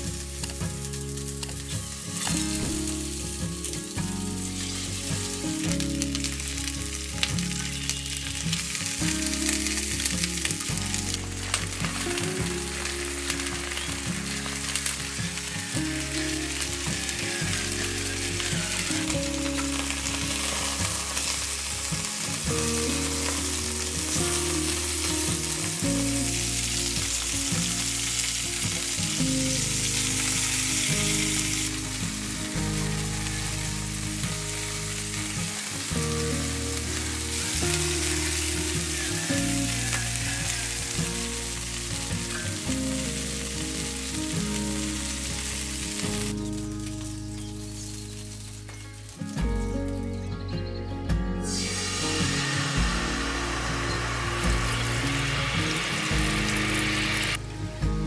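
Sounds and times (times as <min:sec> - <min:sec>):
chicken sizzling in oil: 0:00.0 - 0:50.2, 0:51.1 - 0:57.9
soft background music: 0:00.0 - 0:58.0.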